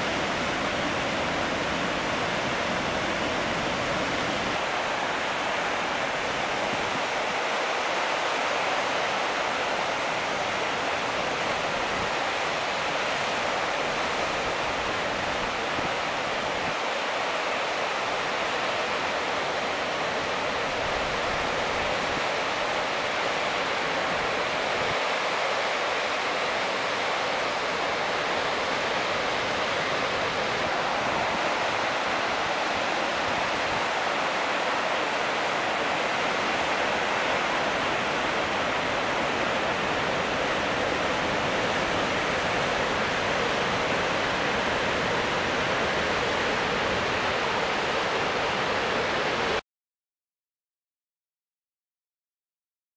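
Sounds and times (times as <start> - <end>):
waterfall rushing: 0.0 - 49.6.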